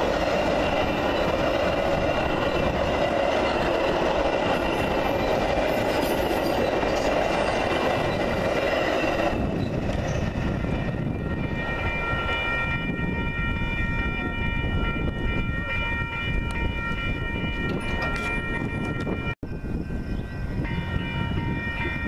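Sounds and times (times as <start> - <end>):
commuter train rumbling: 0.0 - 22.0
crossing warning bell ringing: 0.0 - 22.0.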